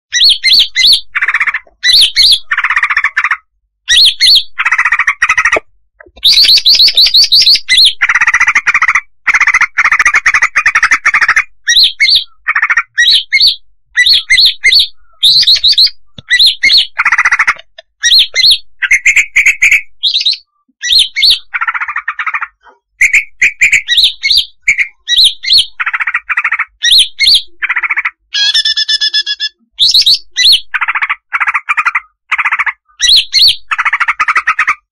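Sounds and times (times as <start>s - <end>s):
bird calling in rapid chirps: 0.1s - 34.9s.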